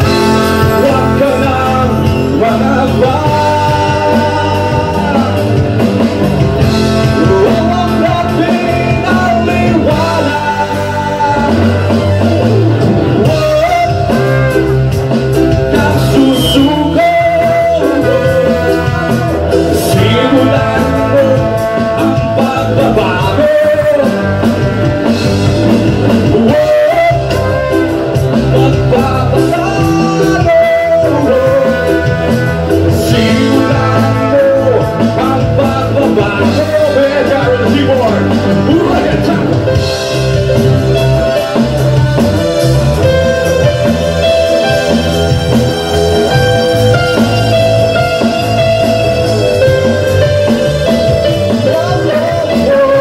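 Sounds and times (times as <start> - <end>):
person singing: 0.0 - 45.1, 45.8 - 53.0
electric guitar: 0.0 - 53.0
heavy bass line: 0.0 - 53.0
reggae band playing: 0.0 - 53.0
trombone and trumpet: 0.0 - 53.0.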